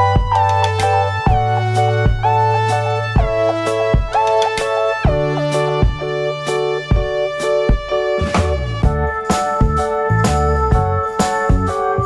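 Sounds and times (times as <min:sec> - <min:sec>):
held melody notes: 0:00.0 - 0:12.0
steady bass: 0:00.0 - 0:12.0.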